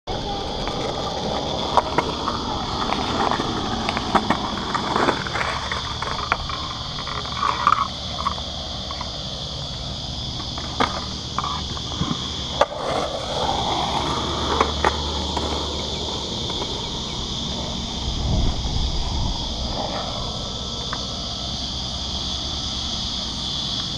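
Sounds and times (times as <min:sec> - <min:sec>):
skateboard clacks: 0:00.1 - 0:18.6, 0:19.6 - 0:22.8
high insect drone: 0:00.1 - 0:23.9
skateboard wheels rolling on concrete: 0:00.1 - 0:23.9.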